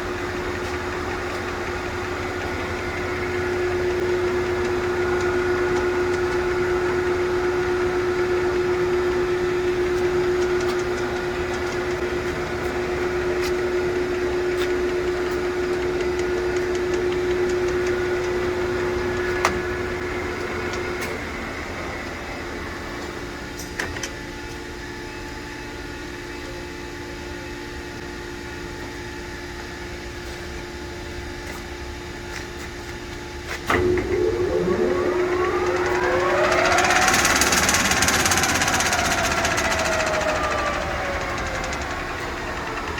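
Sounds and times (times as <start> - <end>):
lathe mechanical hum: 0.0 - 42.9.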